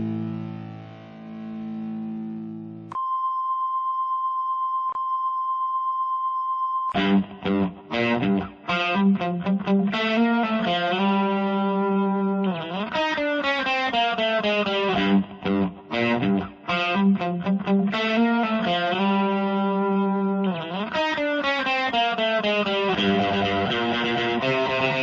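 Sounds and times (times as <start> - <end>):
distorted electric guitar music: 0.0 - 3.0, 6.9 - 25.0.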